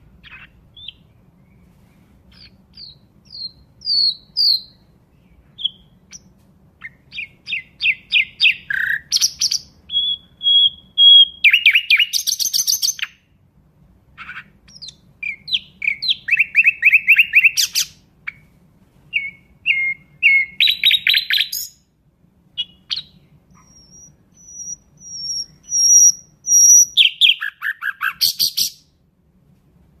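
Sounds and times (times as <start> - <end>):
nightingale singing: 0.0 - 13.4, 14.2 - 18.5, 19.1 - 21.9, 22.5 - 29.0.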